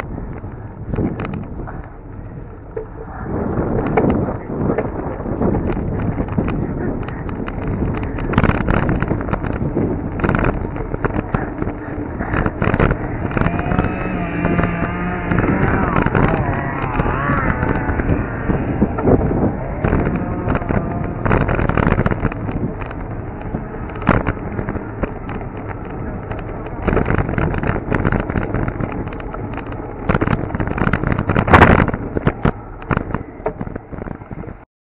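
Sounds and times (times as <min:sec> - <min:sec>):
bike rattles and knocks: 0:00.0 - 0:34.6
wind buffeting microphone: 0:00.0 - 0:34.6.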